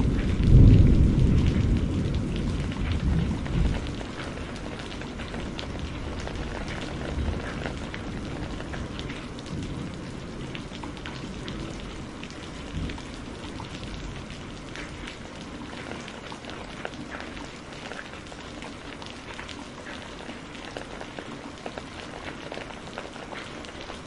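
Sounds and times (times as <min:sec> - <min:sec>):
low rumble of rain: 0:00.0 - 0:24.0
raindrops ticking: 0:00.0 - 0:24.0.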